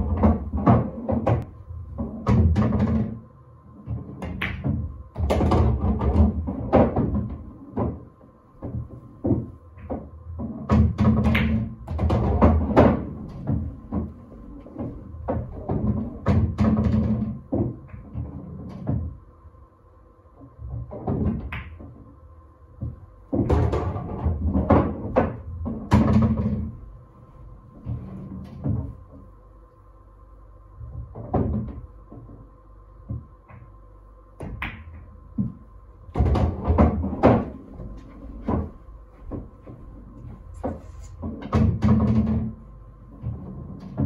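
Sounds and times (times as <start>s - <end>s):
pool balls clicking: 0.0s - 3.2s, 3.8s - 19.2s, 20.4s - 22.1s, 22.8s - 27.0s, 30.9s - 33.8s, 34.4s - 44.0s
faint high hum: 0.0s - 44.0s.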